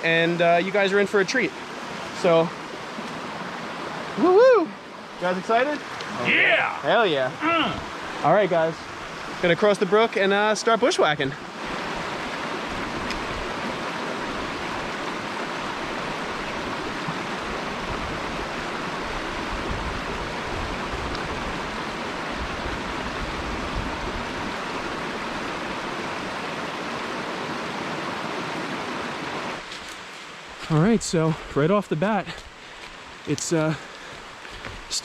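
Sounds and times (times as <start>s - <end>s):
brook water rushing: 0.0s - 35.0s.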